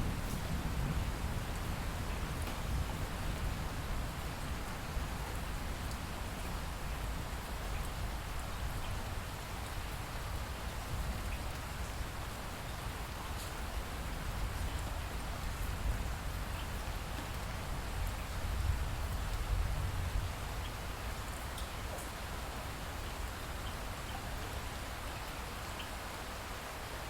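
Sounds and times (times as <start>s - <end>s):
light rain falling: 0.0s - 27.0s.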